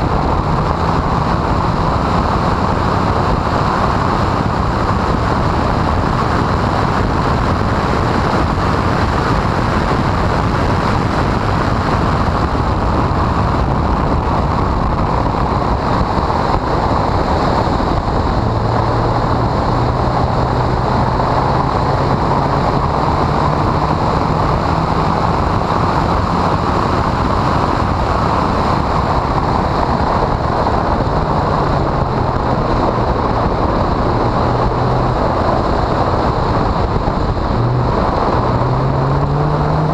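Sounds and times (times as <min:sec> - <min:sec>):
car engine at speed: 0:00.0 - 0:39.9
wind buffeting on microphone: 0:00.0 - 0:39.9.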